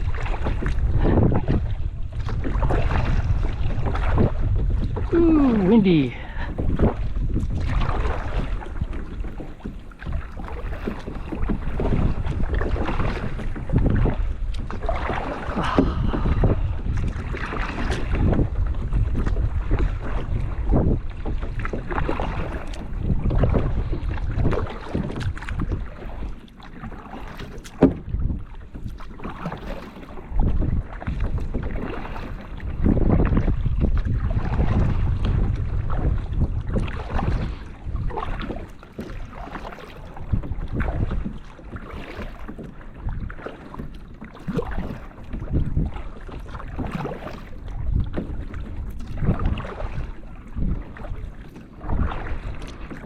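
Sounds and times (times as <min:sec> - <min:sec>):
paddle strokes splashing water: 0:00.0 - 0:53.0
wind buffeting microphone: 0:00.0 - 0:53.0.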